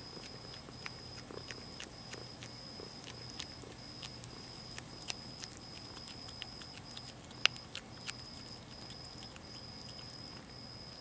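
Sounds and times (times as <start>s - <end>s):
animal crunching dry kibble: 0.0s - 11.0s.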